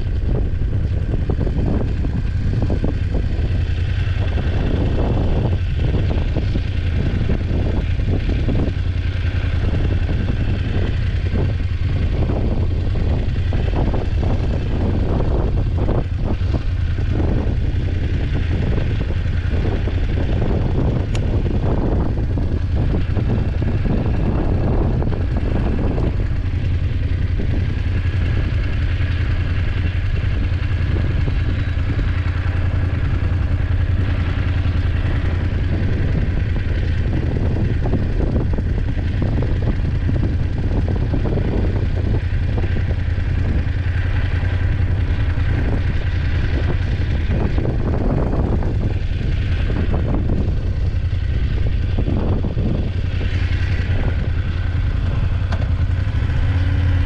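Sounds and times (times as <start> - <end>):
motorcycle engine running: 0.0 - 57.0
road and wind noise: 0.0 - 57.0.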